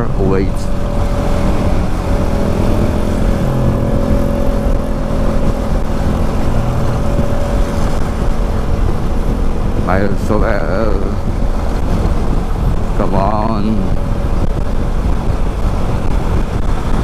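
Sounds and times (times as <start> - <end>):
motorcycle engine whine: 0.0 - 17.0
wind and road rumble: 0.0 - 17.0.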